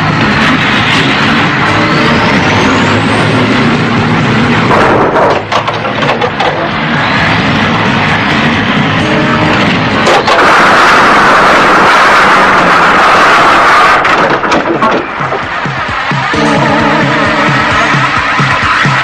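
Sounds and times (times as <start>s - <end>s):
steady loud rush of noise: 0.0s - 19.0s
truck engine running hard: 0.0s - 19.0s.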